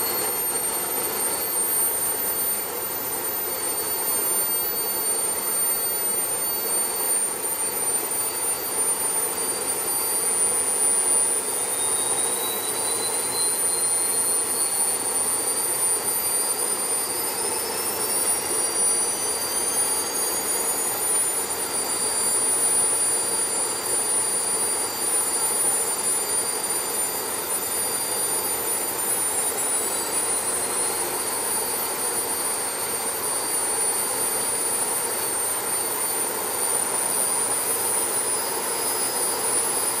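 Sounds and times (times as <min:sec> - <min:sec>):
high whining tones: 0:00.0 - 0:40.0.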